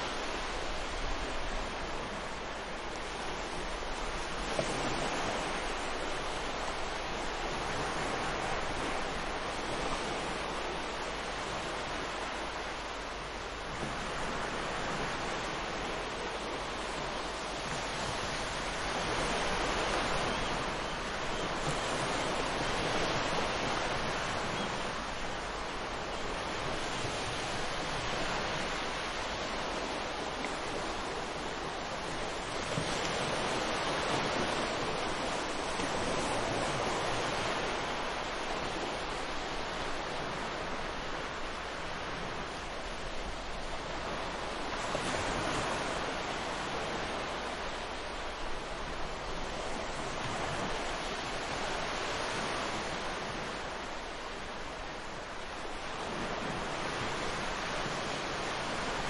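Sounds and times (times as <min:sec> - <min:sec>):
ocean waves washing in: 0:00.0 - 0:59.0.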